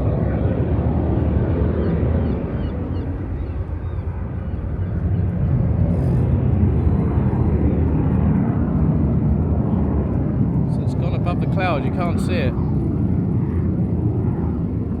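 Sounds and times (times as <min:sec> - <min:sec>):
aircraft rumble: 0:00.0 - 0:15.0.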